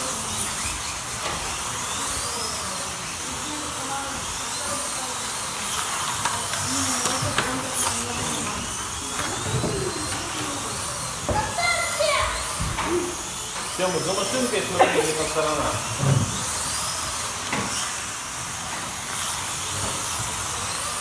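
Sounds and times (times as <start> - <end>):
slot car motors whining: 0.0 - 21.0.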